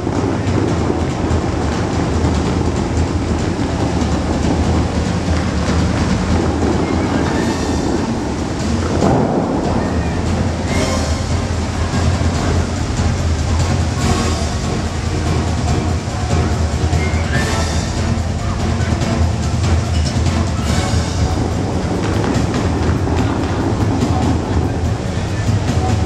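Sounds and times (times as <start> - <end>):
fountain water jets rushing: 0.0 - 26.0
music over loudspeakers: 0.0 - 26.0.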